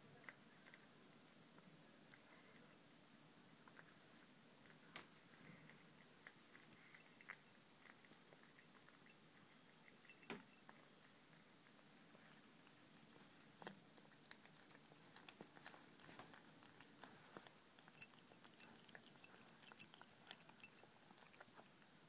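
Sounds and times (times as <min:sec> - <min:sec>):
cat chewing wet food: 0:00.2 - 0:22.0.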